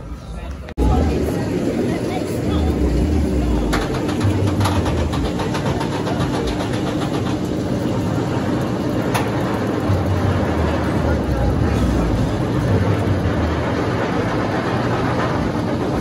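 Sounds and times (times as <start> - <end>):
lift hill mechanical rumble: 0.0 - 16.0
rapid clicking of lift: 3.1 - 16.0.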